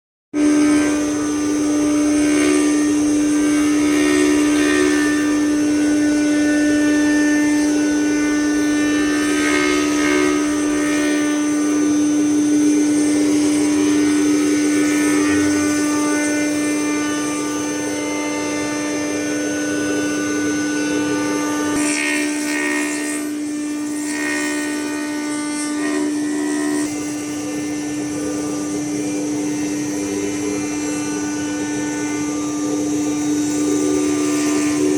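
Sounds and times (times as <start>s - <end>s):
cutter carving wood: 0.3s - 34.9s
router spindle humming: 0.3s - 34.9s.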